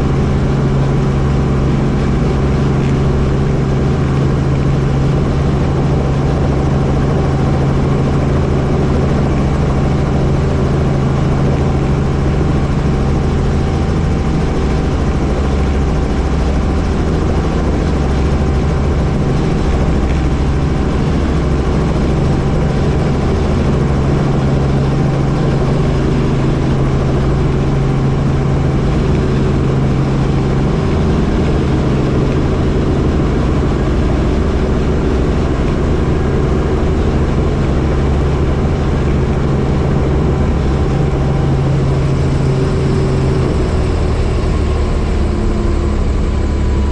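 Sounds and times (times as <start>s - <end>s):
helicopter engine and rotor: 0.0s - 46.9s.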